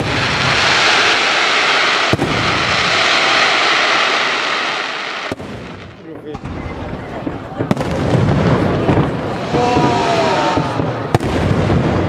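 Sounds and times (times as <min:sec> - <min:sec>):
firework bang: 0:00.0 - 0:12.0
hiss of burning fireworks: 0:00.0 - 0:12.0.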